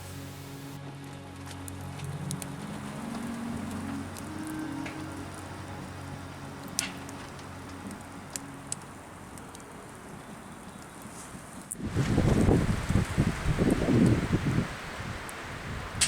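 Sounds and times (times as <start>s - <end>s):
wood stove fire crackling: 0.0s - 16.0s.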